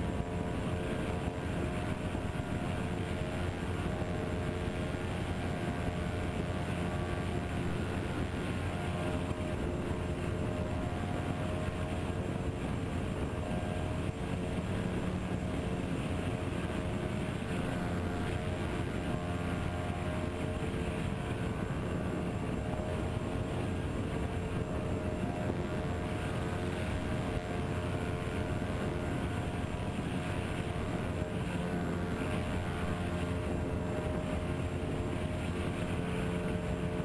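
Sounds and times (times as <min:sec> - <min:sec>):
model plane motors humming: 0:00.0 - 0:37.0.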